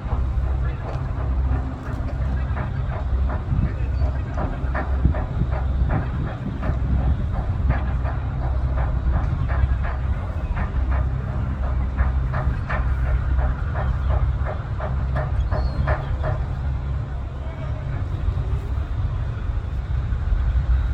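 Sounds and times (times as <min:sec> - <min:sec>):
boat engine droning: 0:00.0 - 0:20.9.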